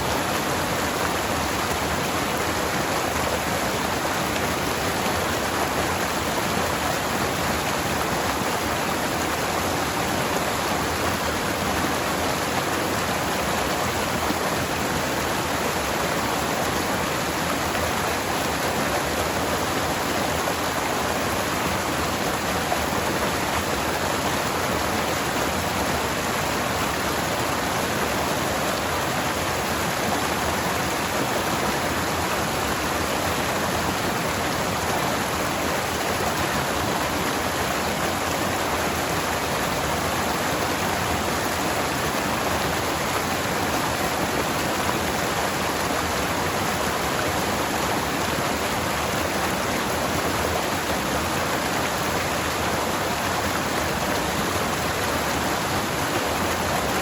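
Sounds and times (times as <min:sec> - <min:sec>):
stream water flowing over rocks: 0:00.0 - 0:57.0.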